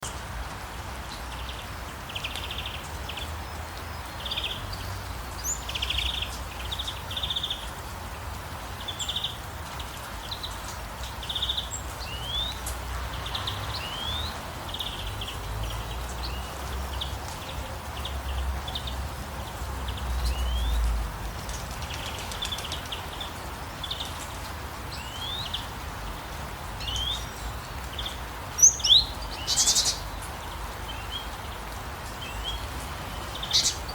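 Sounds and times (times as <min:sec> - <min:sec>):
songbirds chirping: 0:00.0 - 0:33.9
steady hiss of rain: 0:00.0 - 0:33.9.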